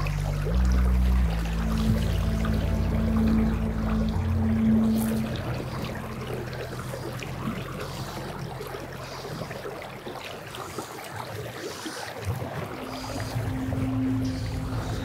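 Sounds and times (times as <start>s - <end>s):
soft background music: 0.0s - 10.6s, 12.4s - 15.0s.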